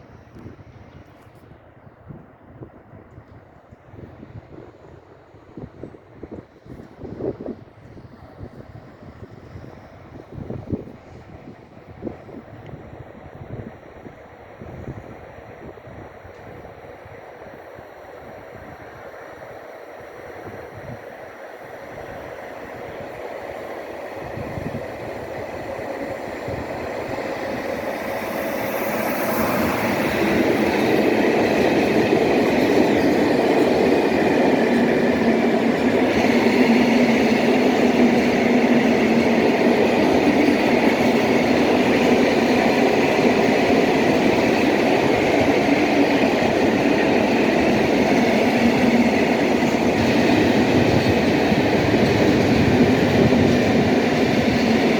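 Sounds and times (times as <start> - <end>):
freight train rumbling past: 0.0 - 54.9.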